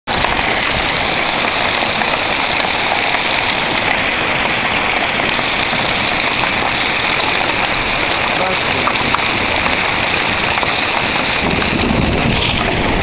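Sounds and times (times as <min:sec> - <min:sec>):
heavy rain and hail: 0:00.1 - 0:13.0.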